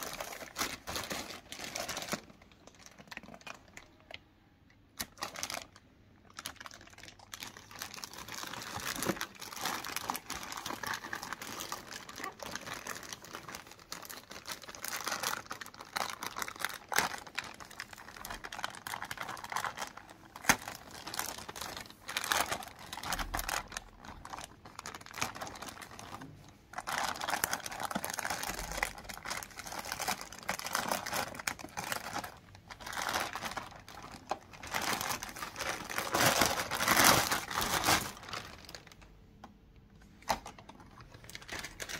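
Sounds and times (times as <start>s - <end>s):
plastic wrapping crinkling: 0.0s - 41.9s.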